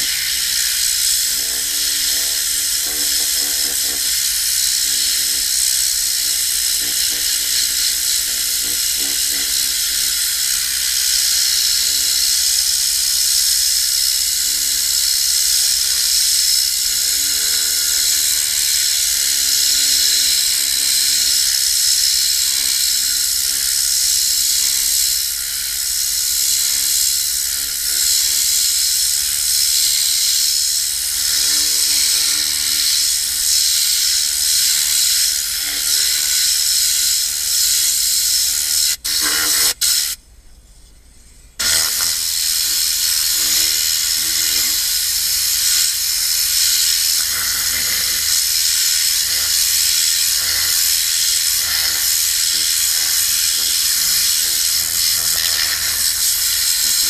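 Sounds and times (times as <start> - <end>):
compressed air gun hissing: 0.0 - 40.3, 41.5 - 57.0.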